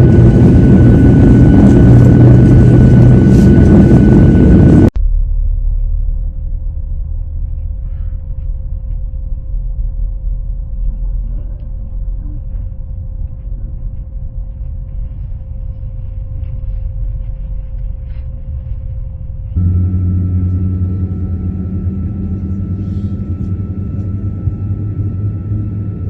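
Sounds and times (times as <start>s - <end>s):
airplane engine rumble: 0.0s - 26.0s
constant hum: 0.0s - 26.0s.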